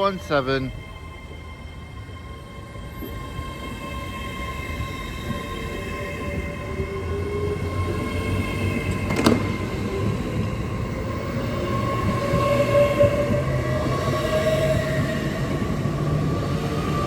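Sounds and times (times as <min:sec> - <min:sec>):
electric train traction whine: 0:00.0 - 0:17.0
low train rumble: 0:00.0 - 0:17.0.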